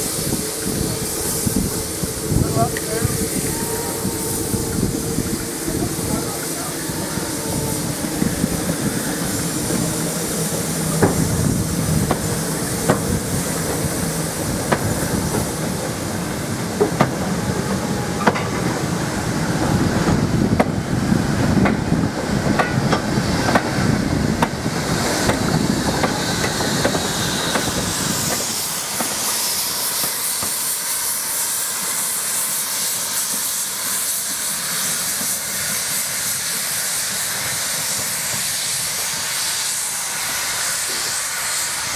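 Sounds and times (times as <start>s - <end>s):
steam hissing: 0.0s - 41.9s
train rumbling: 0.0s - 41.9s.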